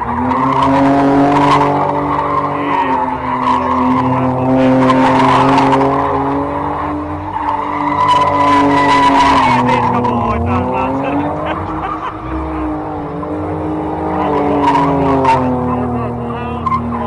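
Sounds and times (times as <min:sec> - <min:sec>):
car engine revving high: 0:00.0 - 0:17.0
tyres squealing: 0:00.0 - 0:17.0.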